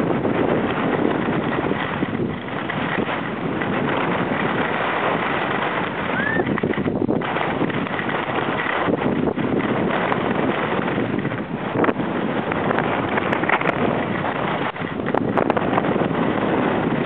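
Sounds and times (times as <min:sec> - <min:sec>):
skis scraping on snow: 0:00.0 - 0:17.0
wind on microphone: 0:00.0 - 0:17.0.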